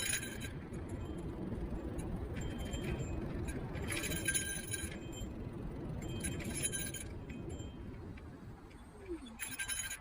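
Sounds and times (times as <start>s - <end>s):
metallic jingling rattle: 0.0s - 8.0s, 9.1s - 10.0s
scooter tyres rumbling: 0.0s - 10.0s
wind: 0.0s - 10.0s.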